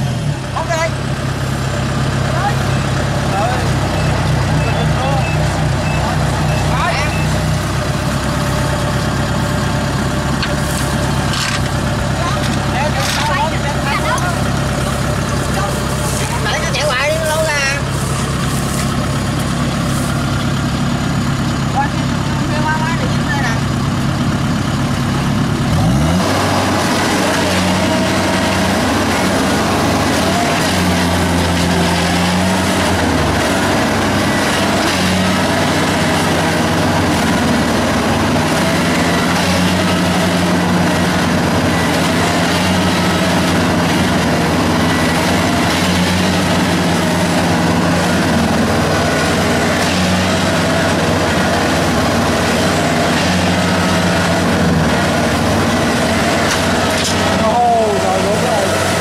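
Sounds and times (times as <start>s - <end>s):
diesel engine revving under load: 0.0s - 59.0s.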